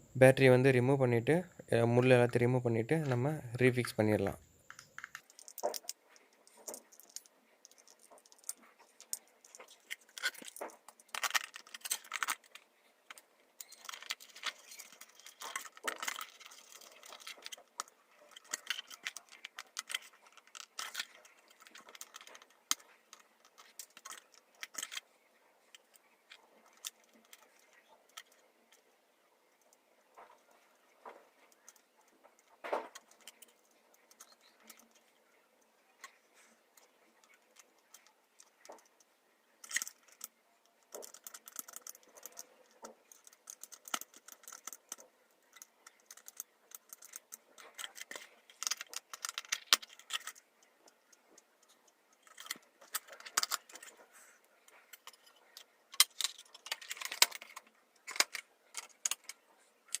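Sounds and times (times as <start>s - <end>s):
small plastic parts clicking and rattling: 1.3s - 60.0s.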